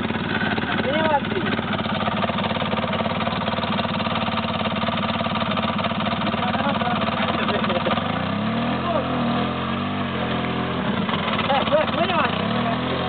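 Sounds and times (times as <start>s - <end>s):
quad bike engine idling: 0.0s - 13.0s.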